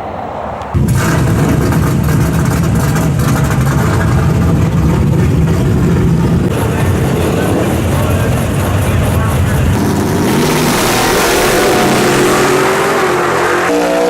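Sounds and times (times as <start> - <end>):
drag-racing car engine rumble: 0.0 - 14.0.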